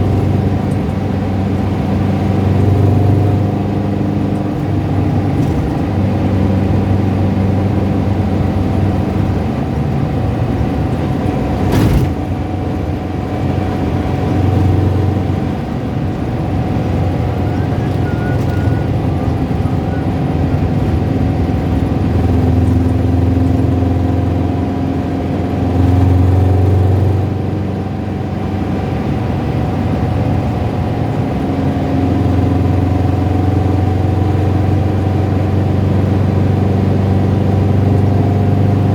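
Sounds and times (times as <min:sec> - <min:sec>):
car engine rattling and tapping: 0:00.0 - 0:38.9.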